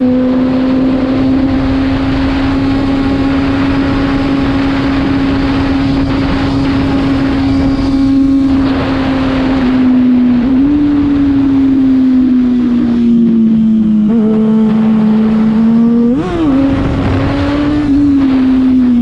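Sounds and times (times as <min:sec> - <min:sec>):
motorcycle engine revving high: 0:00.0 - 0:19.0.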